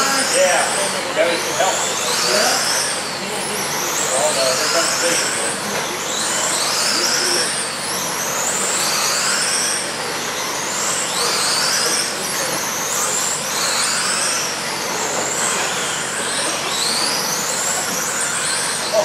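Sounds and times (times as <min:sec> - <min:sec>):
rc truck motors whining: 0:00.0 - 0:19.0.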